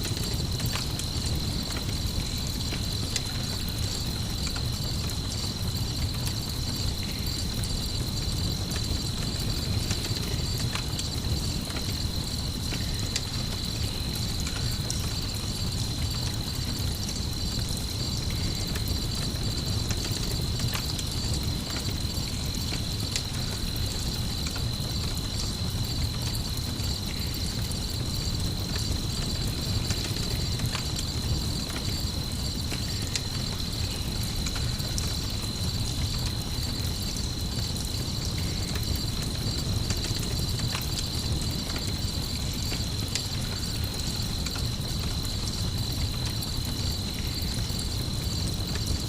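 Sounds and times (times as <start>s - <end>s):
campfire crackling and popping: 0.0s - 49.0s
crickets chirping: 0.0s - 49.0s.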